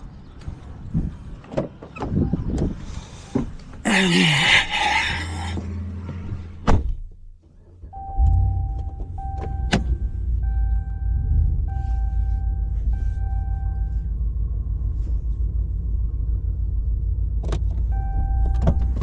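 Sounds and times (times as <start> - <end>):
diesel engine starting and running: 0.0 - 19.0.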